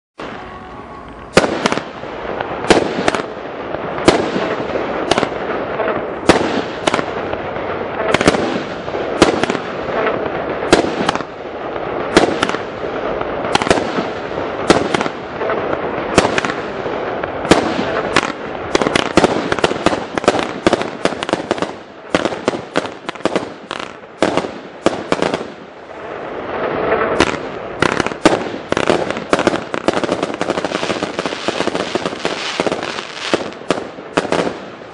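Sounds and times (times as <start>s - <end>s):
fireworks bangs: 0.2s - 34.9s
fireworks crackling: 0.2s - 34.9s.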